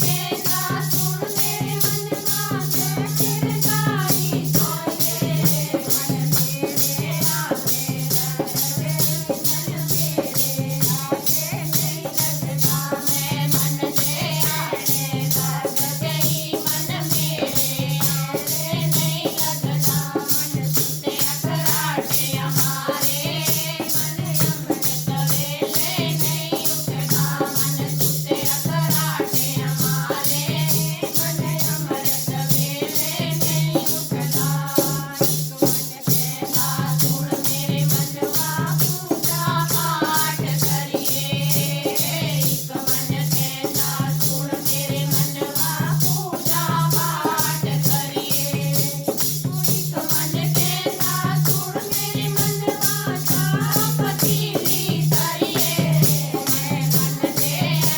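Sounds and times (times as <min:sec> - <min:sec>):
shaken rattle: 0:00.0 - 0:57.9.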